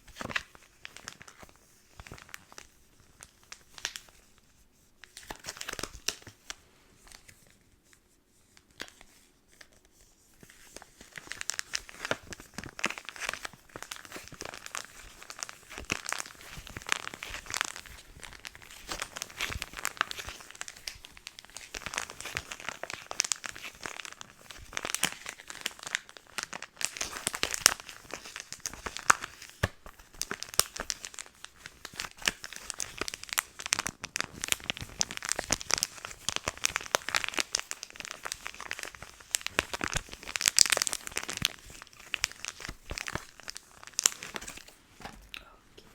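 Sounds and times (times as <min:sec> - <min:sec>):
packaging crinkling: 0:00.1 - 0:04.1, 0:05.1 - 0:06.6, 0:10.5 - 0:45.3.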